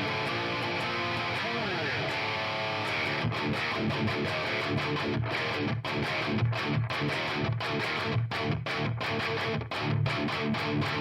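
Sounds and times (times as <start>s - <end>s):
overdriven electric guitar: 0.0s - 11.0s.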